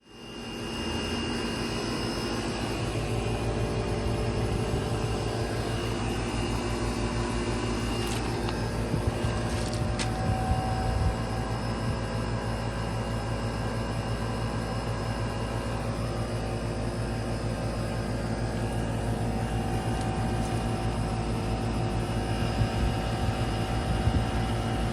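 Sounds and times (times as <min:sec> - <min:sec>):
compressor hum: 0:00.0 - 0:24.9
air conditioner fan airflow: 0:00.1 - 0:24.9.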